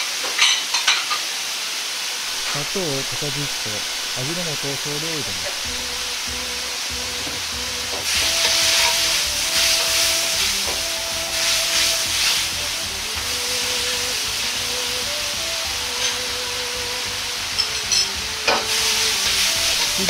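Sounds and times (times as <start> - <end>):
carrots sizzling in a wok: 0.0 - 2.7, 3.5 - 20.0.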